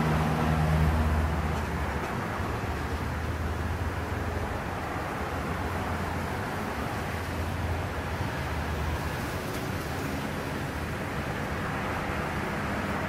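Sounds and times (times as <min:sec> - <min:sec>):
strong wind through trees: 0:00.0 - 0:13.0.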